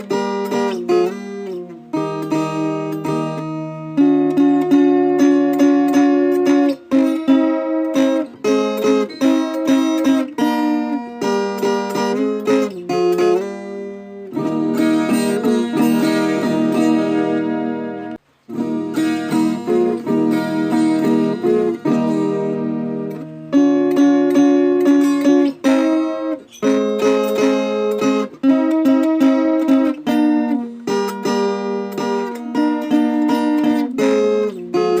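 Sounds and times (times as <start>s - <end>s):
plucked folk guitar melody: 0.0s - 35.0s.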